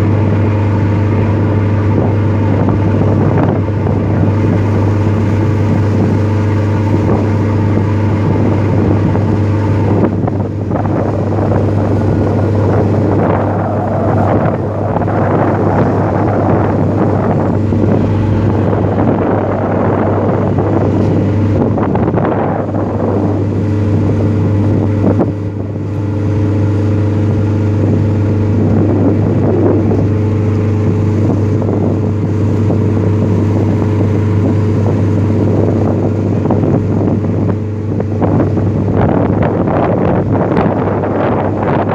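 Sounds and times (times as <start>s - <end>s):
boat engine droning: 0.0s - 41.9s
wind buffeting microphone: 0.0s - 41.9s.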